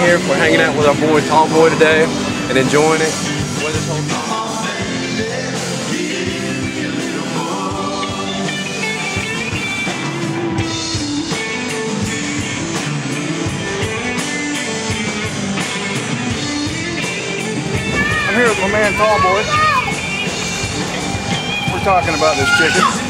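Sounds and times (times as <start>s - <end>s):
rock music with guitar and singing: 0.0s - 23.0s.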